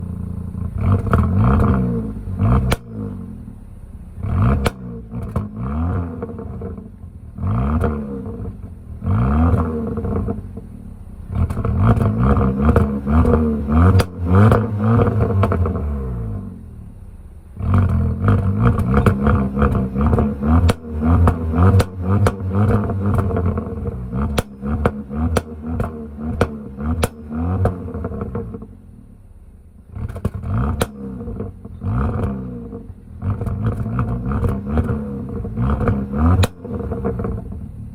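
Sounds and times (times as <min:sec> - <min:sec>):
car engine revving: 0:00.0 - 0:37.9
exhaust pops and crackles: 0:00.0 - 0:37.9.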